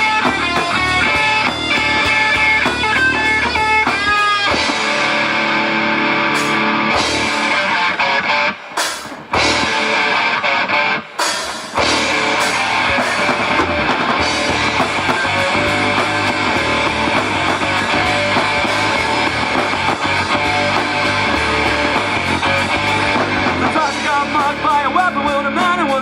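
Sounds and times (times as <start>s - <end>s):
electric guitar: 0.0s - 26.0s
live rock band playing: 0.0s - 26.0s.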